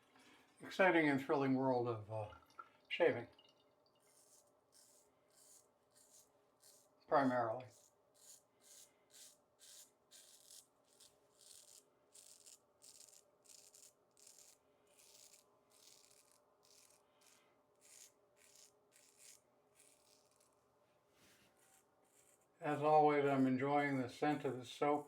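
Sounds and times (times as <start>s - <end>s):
scratchy shaving strokes: 4.0s - 20.6s, 21.2s - 25.0s.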